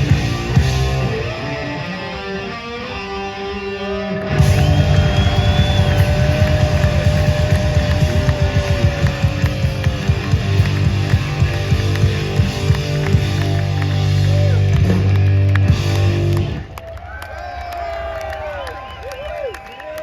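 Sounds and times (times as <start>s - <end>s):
heavy rock band playing: 0.0s - 16.7s.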